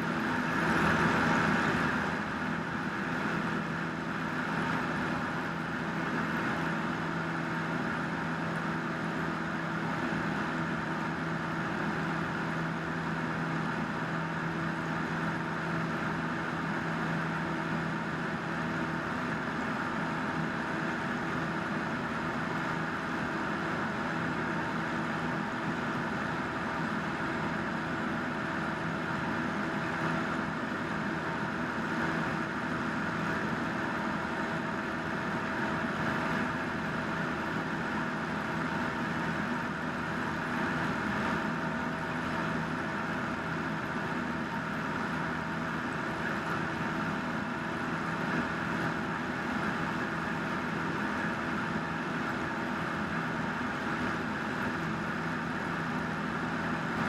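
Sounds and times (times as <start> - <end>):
airplane engine in cabin: 0.0 - 57.0.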